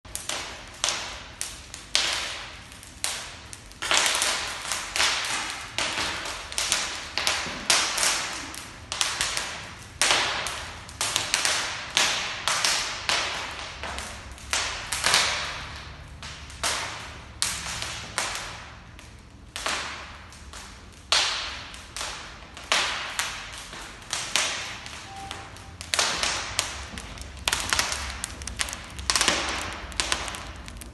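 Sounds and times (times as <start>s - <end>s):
wood fire crackling and popping: 0.1s - 30.9s.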